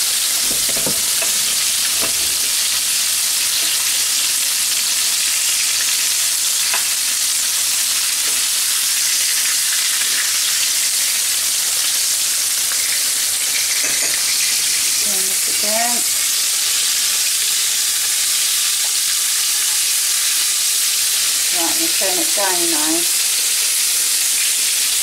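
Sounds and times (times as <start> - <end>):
chicken frying in hot oil: 0.0 - 25.0.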